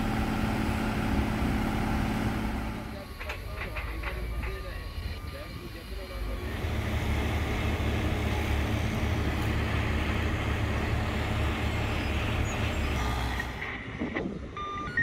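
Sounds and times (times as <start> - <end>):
truck engine drone: 0.0 - 14.7.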